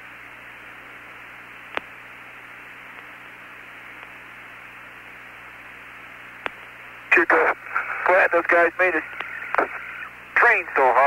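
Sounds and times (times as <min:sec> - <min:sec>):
radio channel hiss: 0:00.0 - 0:11.0.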